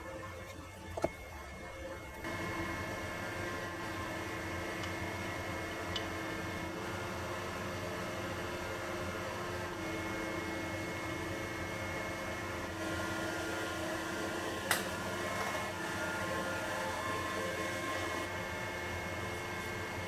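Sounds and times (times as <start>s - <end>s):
fan-like room hum: 0.0s - 20.0s.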